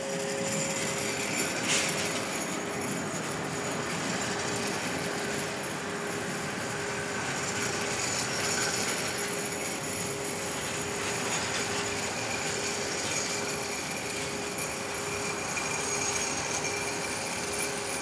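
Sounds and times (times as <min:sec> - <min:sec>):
electric train motors humming: 0:00.0 - 0:18.0.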